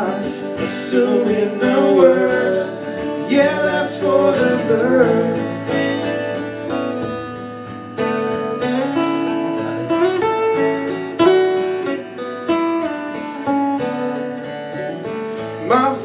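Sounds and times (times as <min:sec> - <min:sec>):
acoustic guitar picked and strummed: 0:00.0 - 0:16.0.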